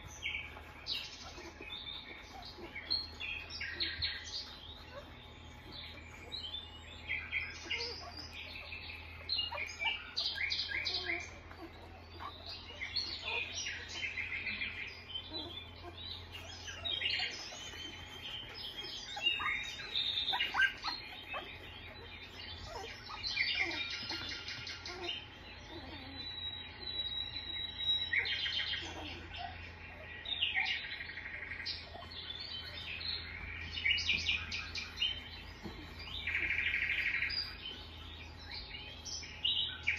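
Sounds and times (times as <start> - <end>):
low steady hum: 0.0 - 39.9
puppies squeaking: 0.0 - 39.9.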